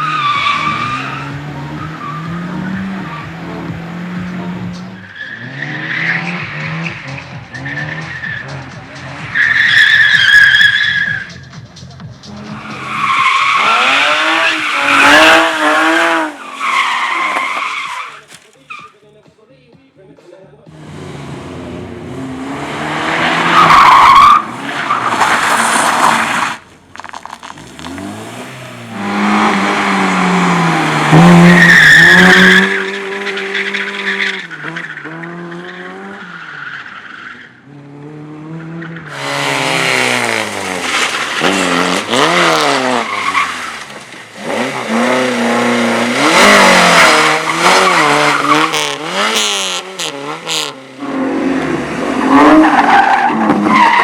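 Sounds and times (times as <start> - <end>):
car engine revving: 0.0 - 18.7, 20.7 - 54.0
tyres squealing: 0.0 - 19.1, 22.4 - 37.5, 38.8 - 51.6, 52.2 - 54.0.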